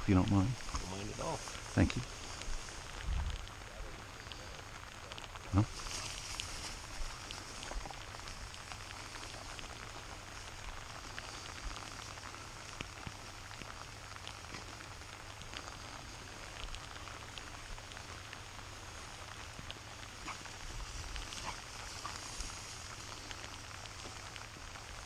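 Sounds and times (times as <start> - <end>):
rain drops hitting close by: 0.0 - 25.0
steady rain falling: 0.0 - 25.0.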